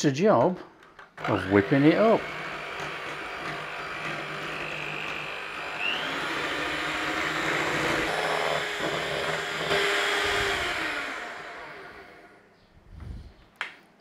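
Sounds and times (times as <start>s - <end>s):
electric hand mixer whipping cream: 1.2s - 12.4s.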